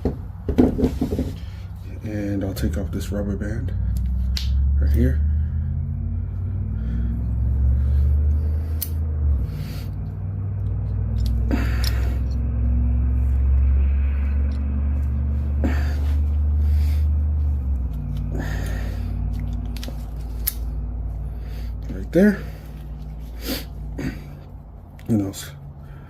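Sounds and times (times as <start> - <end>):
low droning hum: 0.0 - 26.0.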